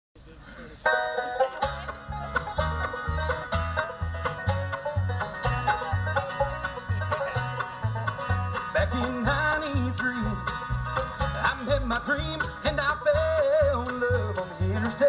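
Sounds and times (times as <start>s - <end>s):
mandolin: 0.2s - 15.0s
banjo picking: 0.5s - 15.0s
upright bass: 0.8s - 15.0s
acoustic guitars: 1.2s - 15.0s.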